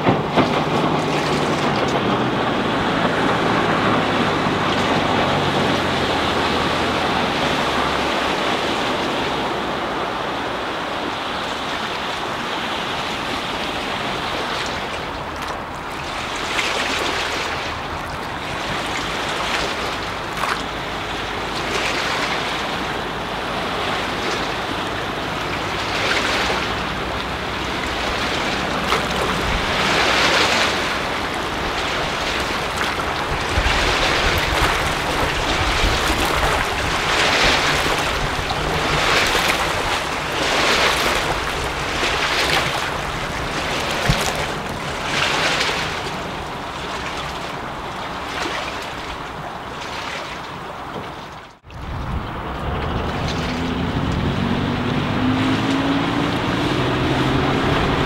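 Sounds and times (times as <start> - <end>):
wind on microphone: 0.0 - 49.8, 50.4 - 58.0
boat engine droning: 0.0 - 58.0
small waves lapping: 0.0 - 58.0.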